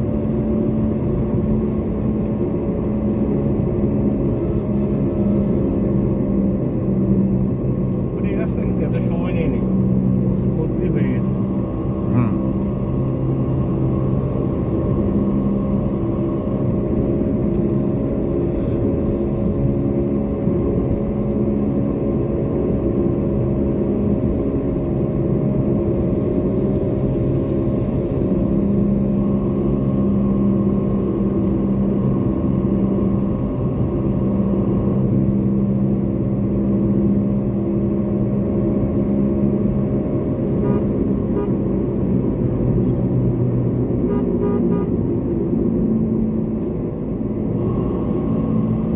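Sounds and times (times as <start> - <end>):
car engine and road drone: 0.0 - 48.9.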